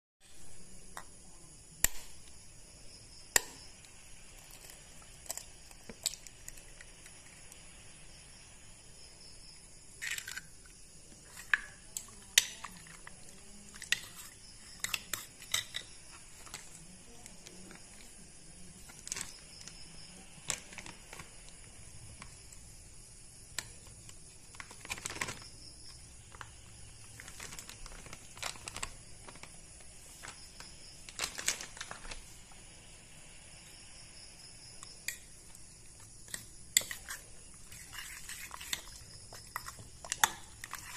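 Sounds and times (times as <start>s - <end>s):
faint steady hiss: 0.2s - 40.9s.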